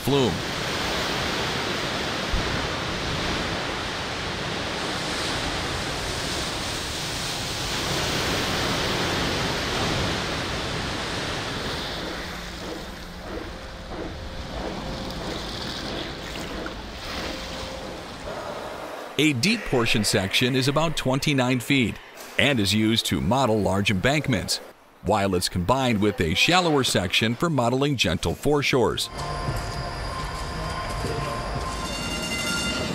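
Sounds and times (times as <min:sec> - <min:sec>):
water rushing and splashing: 0:00.0 - 0:29.4.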